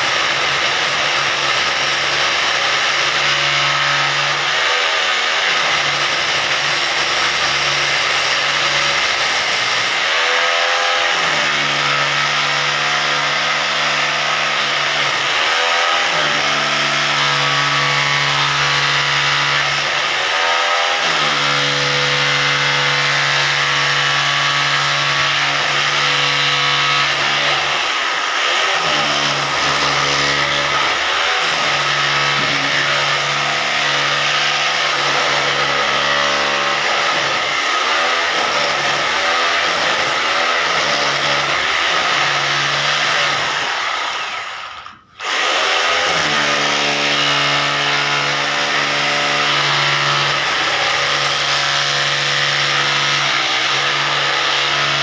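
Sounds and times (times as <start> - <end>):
hammer drill motor running: 0.0 - 55.0.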